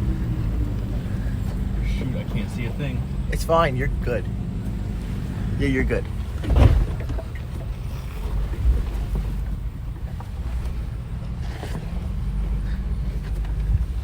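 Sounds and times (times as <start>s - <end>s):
vehicle engine running low rumble: 0.0s - 14.0s.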